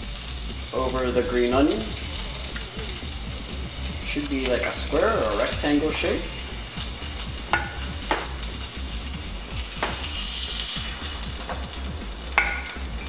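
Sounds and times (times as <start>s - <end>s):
batter sizzling in pan: 0.0s - 13.0s.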